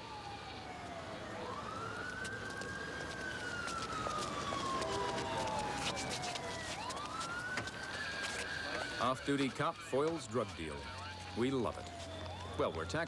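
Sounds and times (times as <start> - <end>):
police siren wailing: 0.0 - 13.0.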